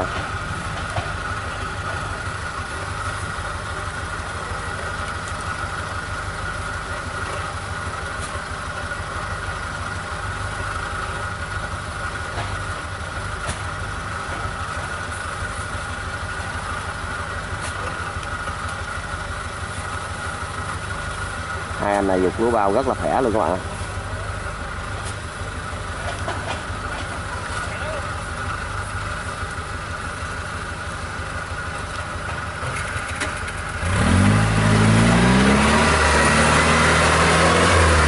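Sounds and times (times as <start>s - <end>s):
engine running with whine: 0.0s - 38.0s.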